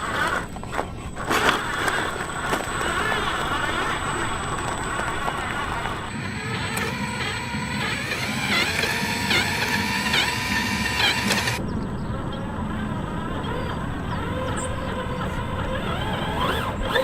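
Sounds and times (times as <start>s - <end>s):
remote-control truck driving: 0.0s - 17.0s.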